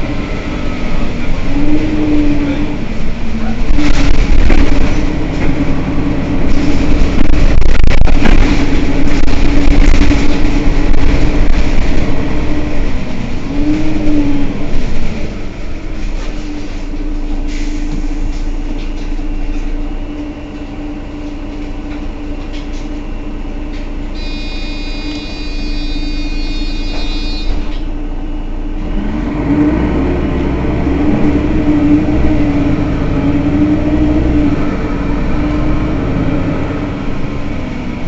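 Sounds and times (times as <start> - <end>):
bus engine rumbling: 0.0 - 38.0.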